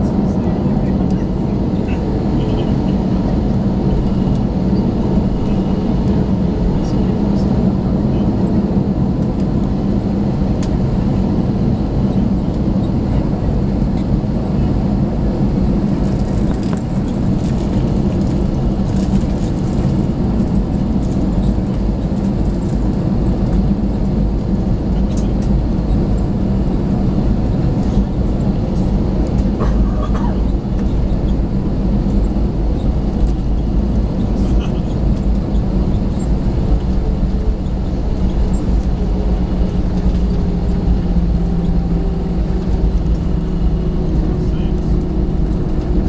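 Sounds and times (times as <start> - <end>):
jet engines humming in cabin: 0.0 - 46.0.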